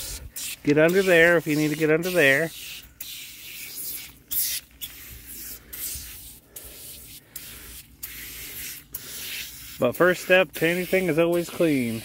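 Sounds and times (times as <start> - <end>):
hissing spray: 0.0 - 12.0.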